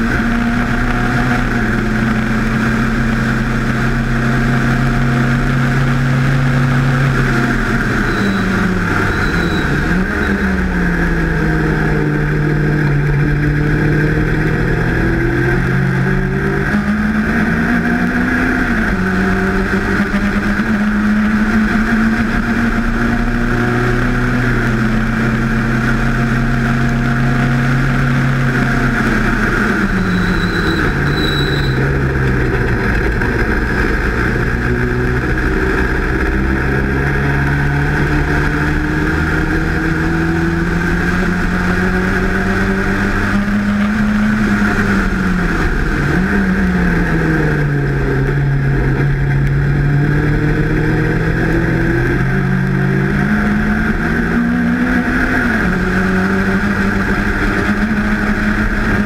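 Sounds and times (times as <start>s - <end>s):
race car engine at high revs: 0.0s - 59.0s
wind and road noise: 0.0s - 59.0s.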